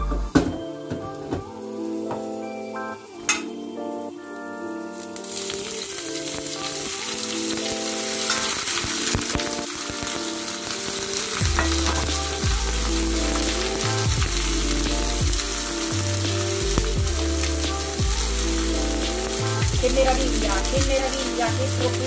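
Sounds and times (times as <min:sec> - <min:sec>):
greens sizzling in a frying pan: 0:03.0 - 0:22.0.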